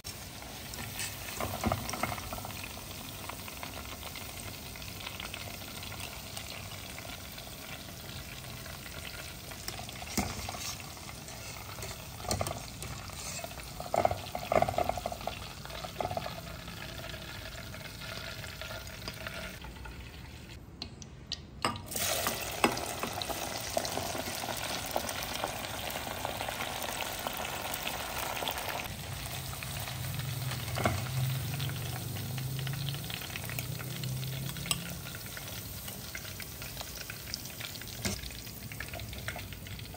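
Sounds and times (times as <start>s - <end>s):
hot oil sizzling: 0.0s - 20.6s, 21.8s - 39.9s.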